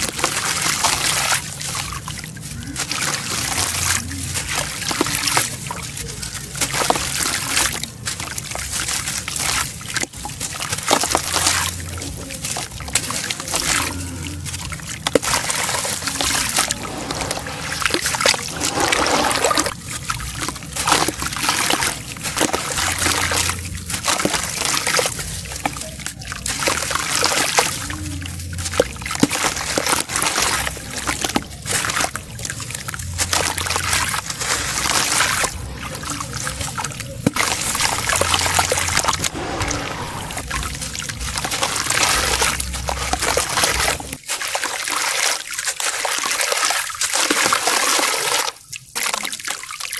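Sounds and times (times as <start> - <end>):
water sloshing and trickling: 0.0 - 49.9
wet chunk crunching and crackling: 0.0 - 49.9.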